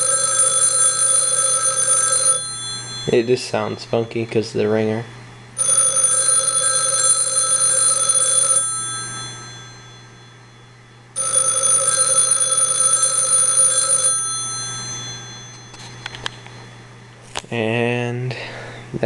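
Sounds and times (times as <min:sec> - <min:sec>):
rotary phone bells ringing: 0:00.0 - 0:04.2, 0:05.6 - 0:16.8.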